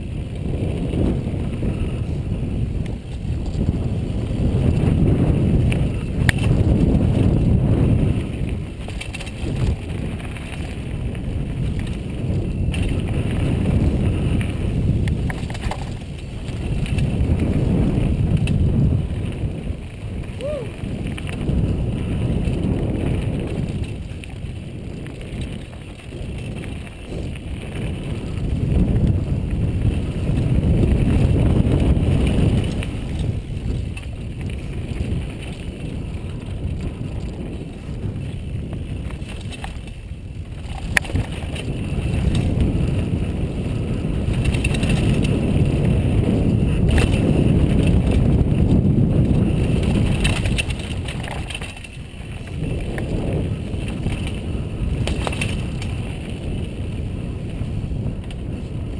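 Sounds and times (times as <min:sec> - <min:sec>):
bike tyres and frame rattling: 0:00.0 - 0:58.9
wind rushing over microphone: 0:00.0 - 0:58.9.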